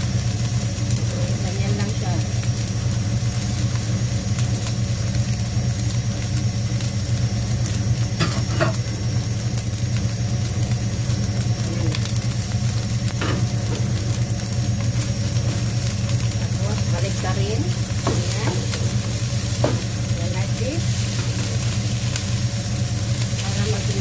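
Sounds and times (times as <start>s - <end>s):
low mechanical hum: 0.0s - 24.0s
rice and egg sizzling in a pan: 0.0s - 24.0s.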